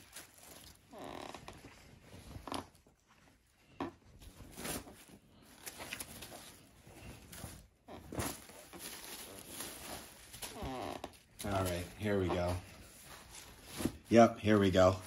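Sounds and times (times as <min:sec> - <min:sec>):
fabric and plastic bag rustling: 0:00.0 - 0:15.0.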